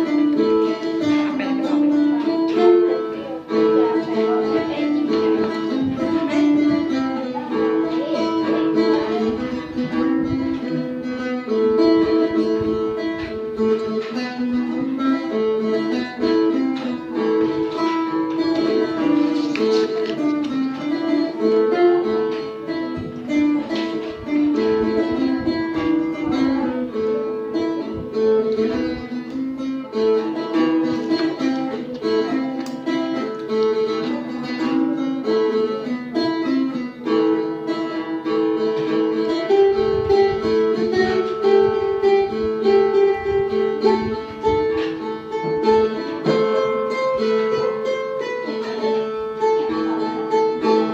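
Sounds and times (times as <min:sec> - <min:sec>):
plucked lute melody: 0:00.0 - 0:50.9.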